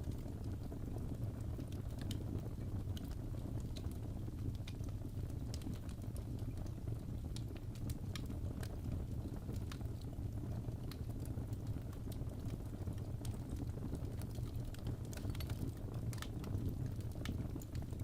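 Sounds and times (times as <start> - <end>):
fire burning in a fireplace: 0.0 - 18.0
fire crackling and popping: 0.0 - 18.0.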